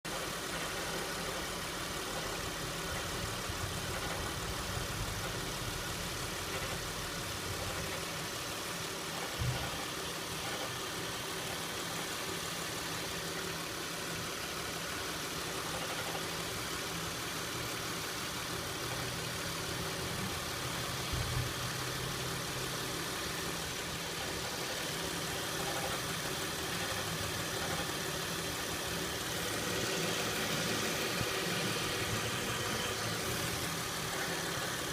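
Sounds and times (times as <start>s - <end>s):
car engine idling with rattle: 0.1s - 34.9s.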